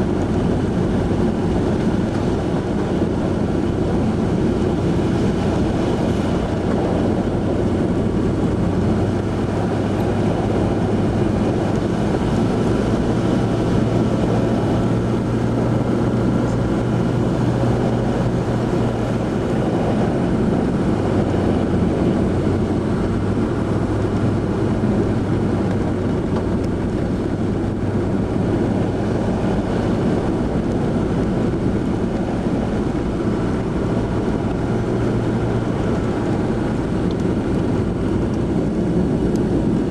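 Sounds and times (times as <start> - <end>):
road and tyre noise: 0.0 - 39.9
vehicle engine drone: 0.0 - 39.9.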